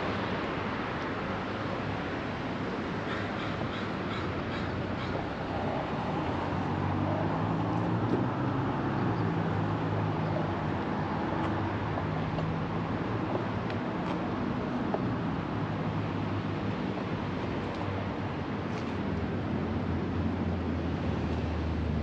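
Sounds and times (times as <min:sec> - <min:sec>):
city noise: 0:00.0 - 0:22.0.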